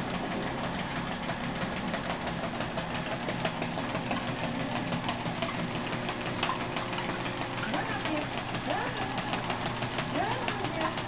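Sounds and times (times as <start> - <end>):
treadmill motor humming: 0.0 - 11.0.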